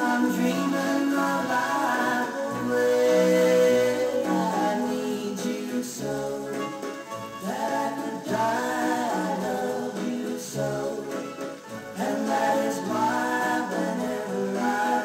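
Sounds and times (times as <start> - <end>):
group of voices singing: 0.0 - 15.0
record hiss: 0.0 - 15.0.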